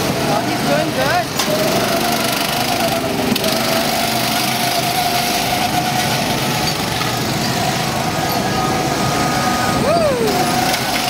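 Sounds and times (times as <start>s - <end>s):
go-kart engines whining: 0.0s - 11.0s.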